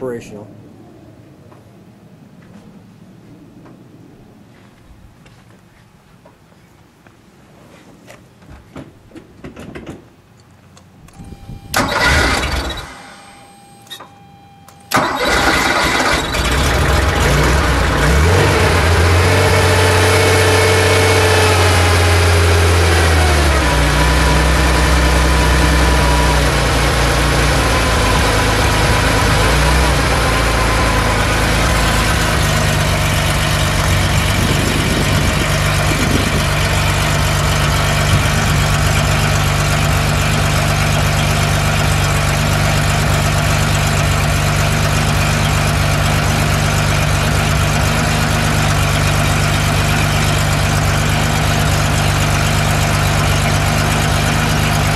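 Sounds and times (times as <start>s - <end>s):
car engine starting and idling: 10.7s - 54.9s.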